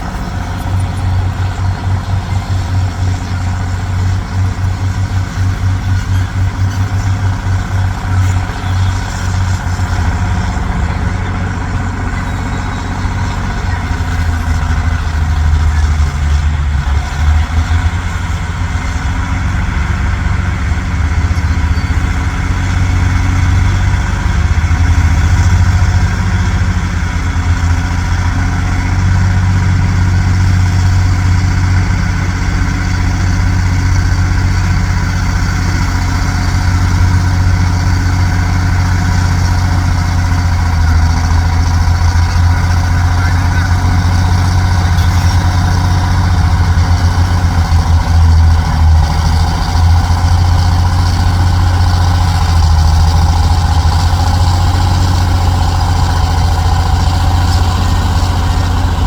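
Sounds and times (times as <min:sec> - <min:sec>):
truck engine idling throbbing: 0:00.0 - 0:59.0.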